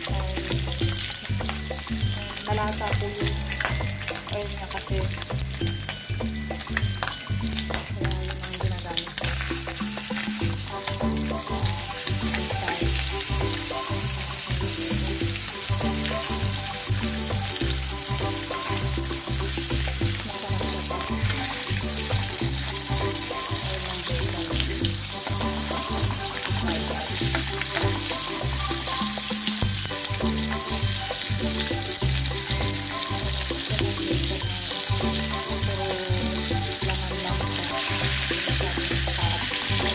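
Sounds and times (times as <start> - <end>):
background music with bass: 0.0 - 39.9
bacon sizzling in oil: 0.0 - 39.9.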